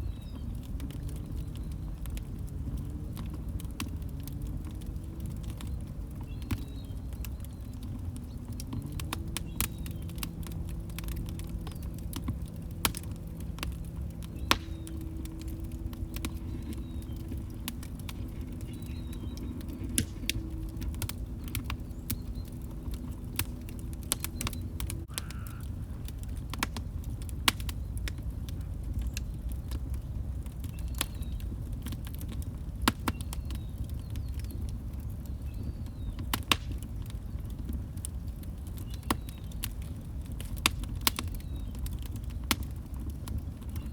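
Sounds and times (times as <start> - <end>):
log fire crackling: 0.0 - 43.9.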